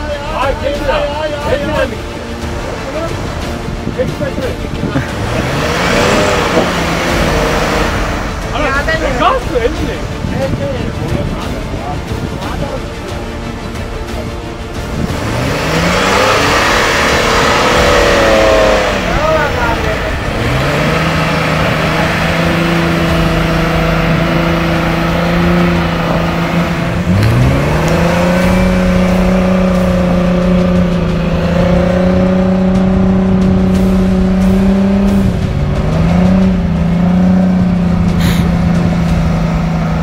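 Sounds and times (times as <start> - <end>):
car engine under load: 0.0 - 40.0.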